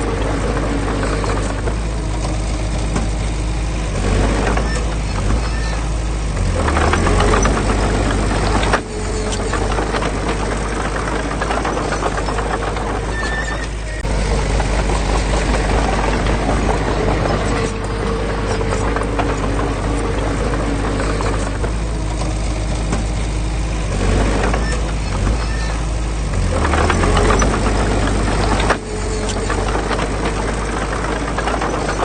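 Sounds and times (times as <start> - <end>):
diesel engine running: 0.0 - 32.0
machinery clatter: 0.0 - 32.0.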